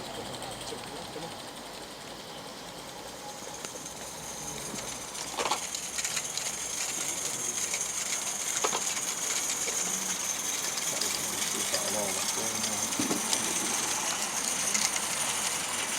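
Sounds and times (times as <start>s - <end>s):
high hiss of steam: 2.0s - 15.9s.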